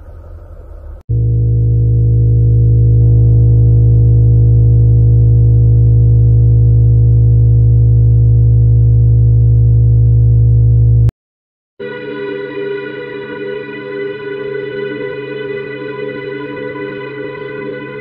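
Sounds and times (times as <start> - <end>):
low electronic drone: 0.0 - 11.1, 11.8 - 18.0.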